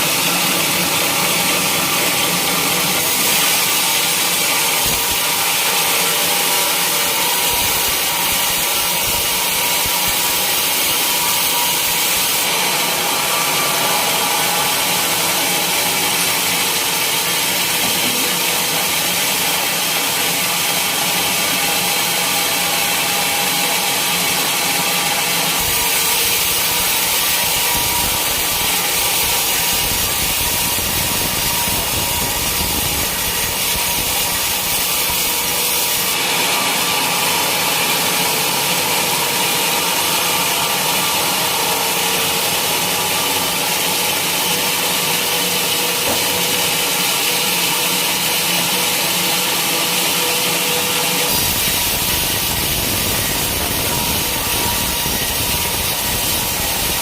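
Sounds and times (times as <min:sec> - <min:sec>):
saw cutting through log: 0:00.0 - 0:57.0.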